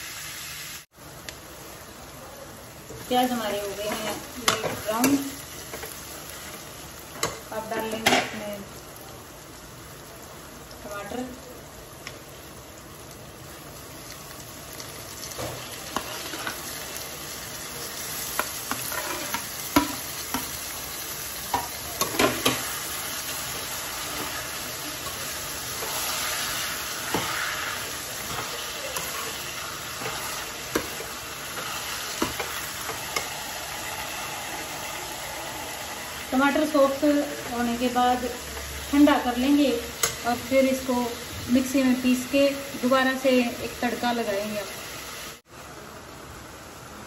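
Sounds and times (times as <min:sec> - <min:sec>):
vegetables sizzling in a pan: 0:00.0 - 0:47.0.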